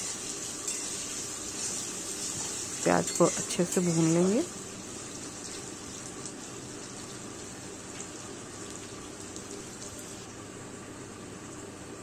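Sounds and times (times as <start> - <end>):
onions sizzling in hot oil: 0.0 - 10.8.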